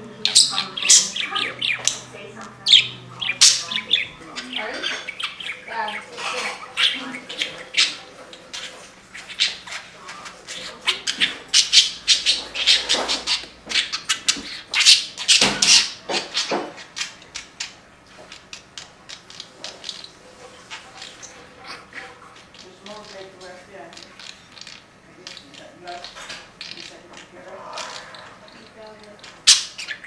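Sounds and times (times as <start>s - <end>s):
budgerigar chattering: 0.1s - 30.0s.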